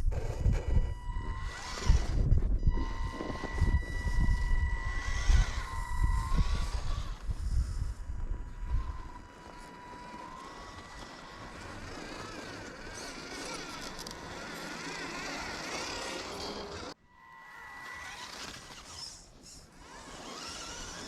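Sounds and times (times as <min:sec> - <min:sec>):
electric motor and gearbox whining: 0:00.0 - 0:21.0.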